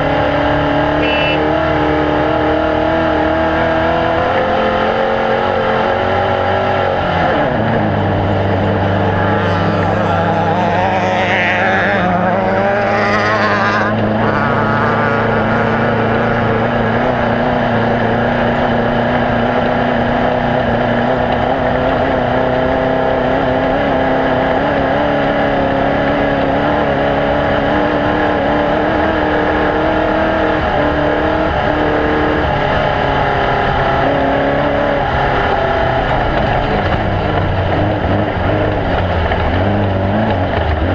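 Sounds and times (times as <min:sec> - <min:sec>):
race vehicle engine running hard: 0:00.0 - 0:40.9.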